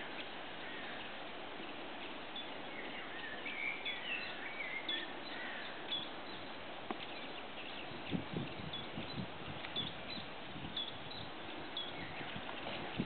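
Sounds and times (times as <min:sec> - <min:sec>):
birds chirping: 0:00.0 - 0:13.0
steady outdoor hiss: 0:00.0 - 0:13.0.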